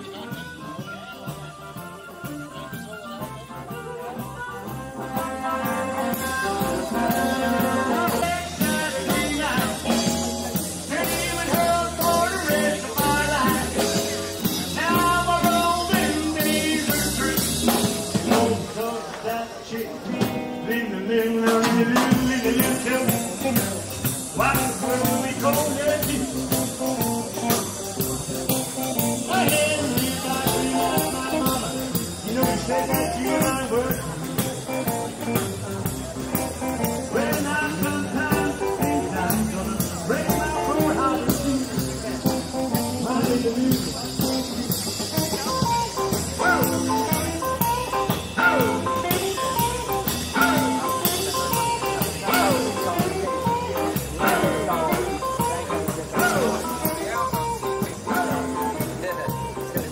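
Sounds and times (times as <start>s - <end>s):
music with singing and beat: 0.0s - 59.9s.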